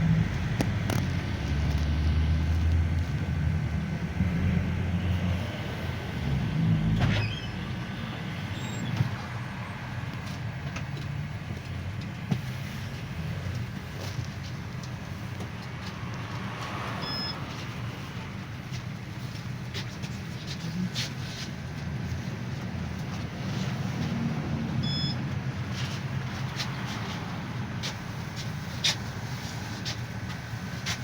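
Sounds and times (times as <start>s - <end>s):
minibus engine drone: 0.0s - 31.0s
road noise: 0.0s - 31.0s.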